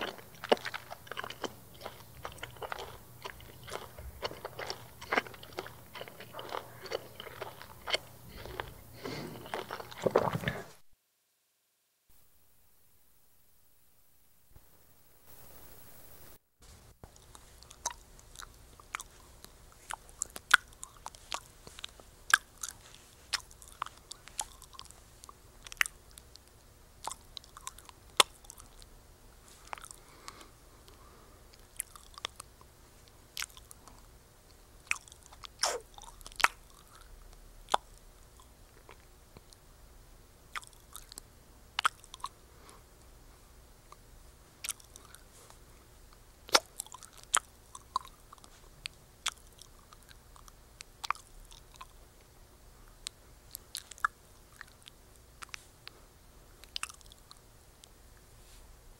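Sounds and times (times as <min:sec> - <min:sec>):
gum chewing wet smacks: 0:00.0 - 0:10.7, 0:17.0 - 0:28.9, 0:29.5 - 0:39.7, 0:40.5 - 0:42.8, 0:43.9 - 0:52.3, 0:53.0 - 0:56.0, 0:56.6 - 0:58.0.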